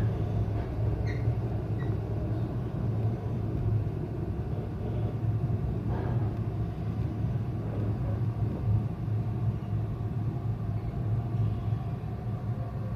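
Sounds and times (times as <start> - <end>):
electric train rumbling: 0.0 - 12.9.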